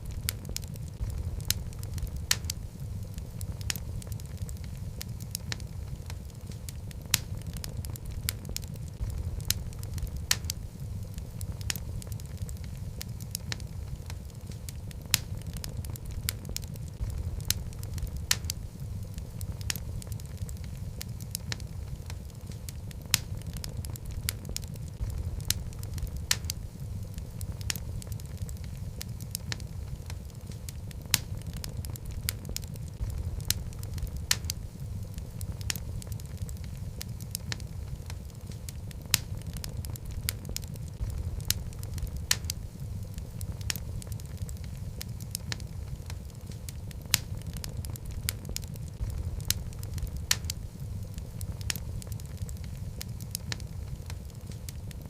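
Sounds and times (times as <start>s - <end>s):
logs burning in fireplace: 0.0s - 55.0s.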